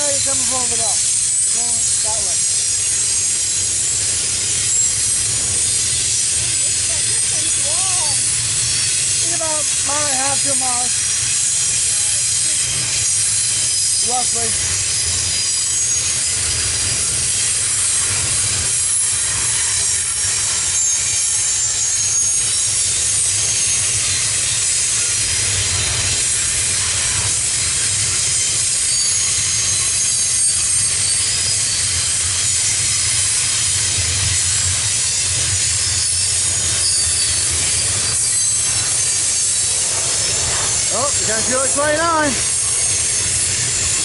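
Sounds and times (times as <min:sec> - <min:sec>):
high wheel squeal: 0:00.0 - 0:44.0
train wheels rumbling on rails: 0:00.0 - 0:44.0.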